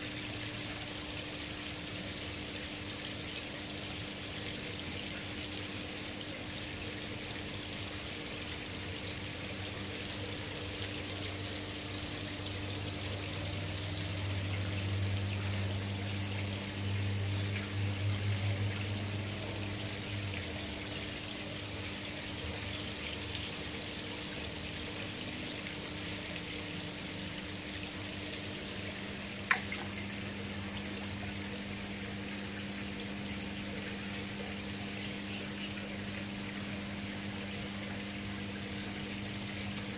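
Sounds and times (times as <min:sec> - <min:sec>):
low steady hum: 0:00.0 - 0:39.9
water trickling in a pond: 0:00.0 - 0:39.9.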